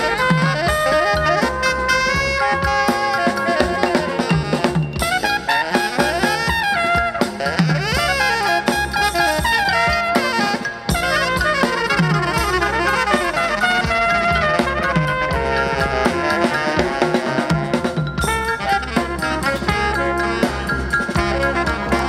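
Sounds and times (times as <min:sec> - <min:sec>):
lively horn music with drums: 0:00.0 - 0:22.0.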